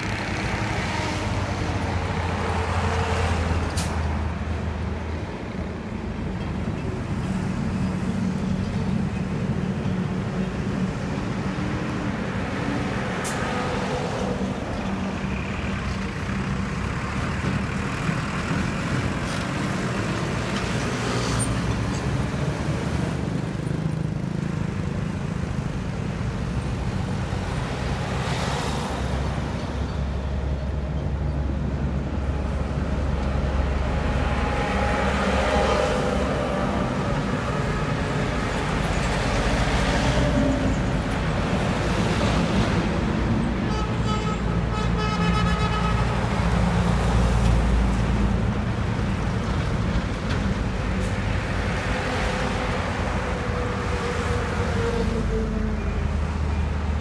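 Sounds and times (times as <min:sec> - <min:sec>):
highway traffic passing: 0:00.0 - 0:57.0.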